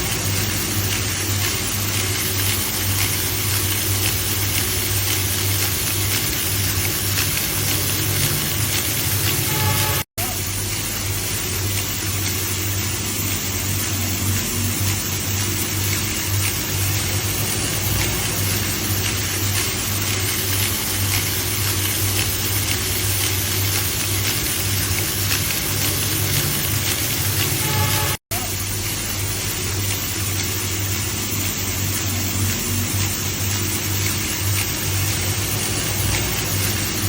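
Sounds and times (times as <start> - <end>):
wire stone-cutting saw running: 0.0 - 37.0.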